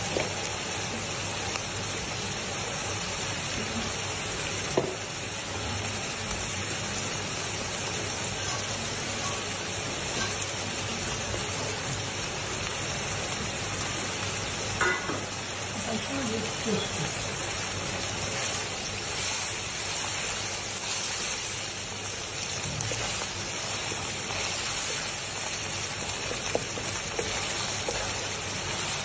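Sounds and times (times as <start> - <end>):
meat sizzling in a wok: 0.0 - 29.0.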